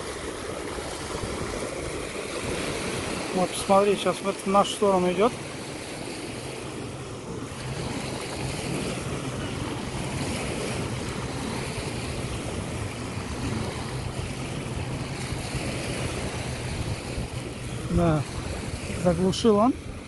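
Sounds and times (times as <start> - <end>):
jet ski engine droning: 0.0 - 20.0
waves washing onto pebbles: 0.0 - 20.0.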